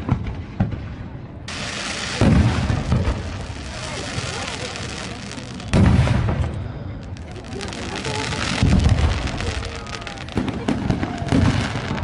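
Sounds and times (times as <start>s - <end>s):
low rumble of firework burst: 0.1s - 12.0s
firework crackles: 1.5s - 12.0s.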